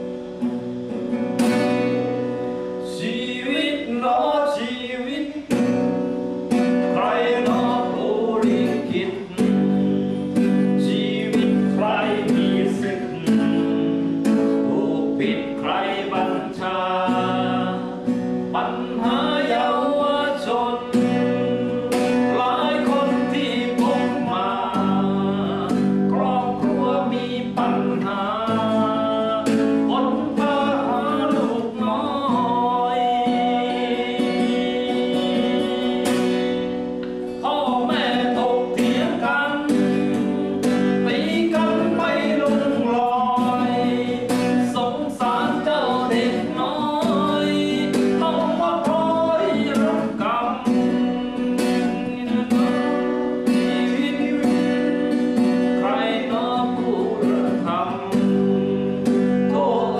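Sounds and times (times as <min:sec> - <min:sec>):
guitar accompaniment: 0:00.0 - 0:59.9
person singing: 0:01.5 - 0:59.9.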